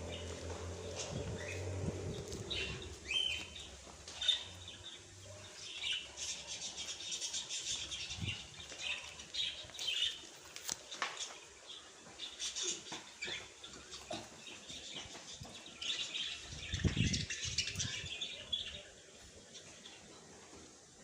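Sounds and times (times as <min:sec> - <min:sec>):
small birds chirping and twittering: 0:00.0 - 0:21.0.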